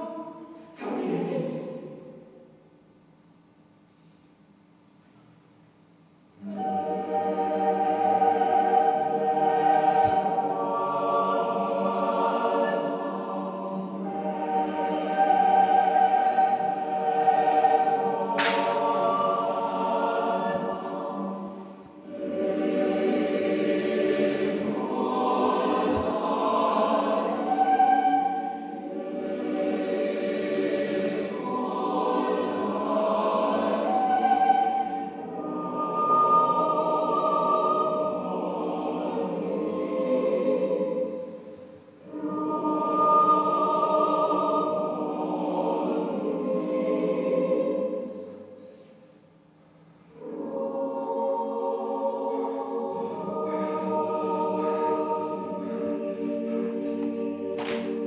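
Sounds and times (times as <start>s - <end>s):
choir singing long chords: 0.0s - 2.6s, 6.4s - 49.2s, 50.0s - 58.0s.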